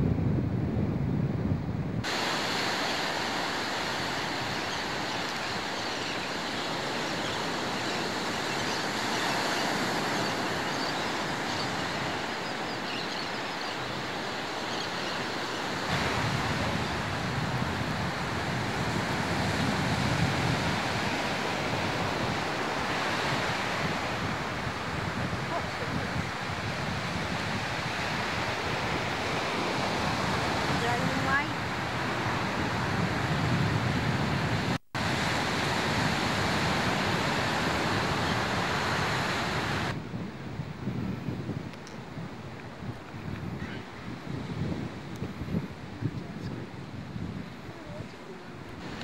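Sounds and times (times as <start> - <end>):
surf breaking on a beach: 0.0 - 49.0
wind rumbling on microphone: 0.0 - 49.0.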